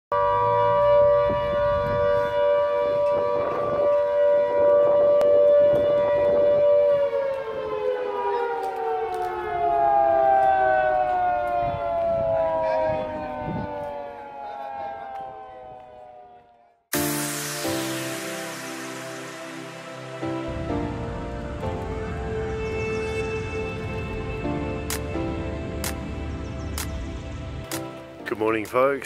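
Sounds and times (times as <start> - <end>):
two-tone warning siren: 0.1 - 27.8.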